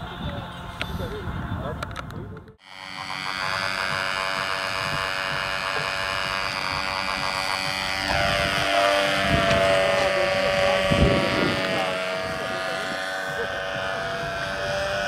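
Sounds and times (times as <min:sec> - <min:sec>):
propeller motor buzzing whine: 0:00.0 - 0:15.0.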